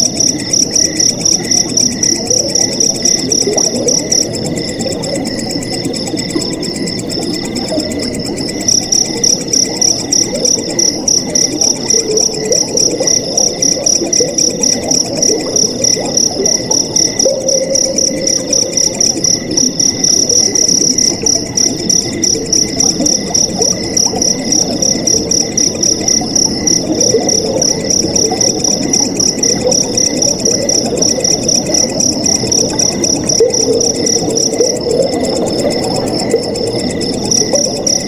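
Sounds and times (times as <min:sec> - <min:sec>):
crickets chirping: 0:00.0 - 0:38.0
flowing water gurgling: 0:00.0 - 0:38.0.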